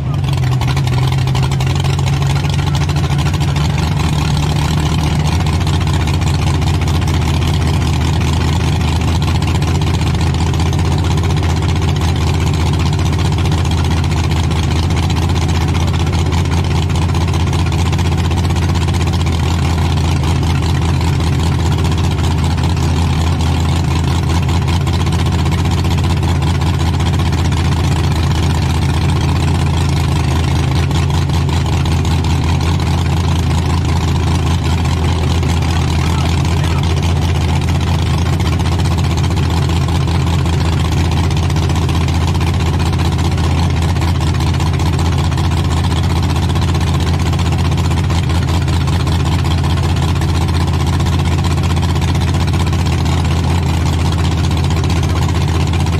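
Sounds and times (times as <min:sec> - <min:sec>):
truck engine idling: 0:00.0 - 0:55.9.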